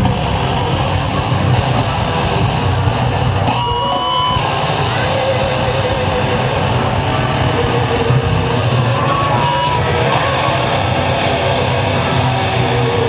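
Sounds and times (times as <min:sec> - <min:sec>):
loud band music with guitar: 0:00.0 - 0:13.0.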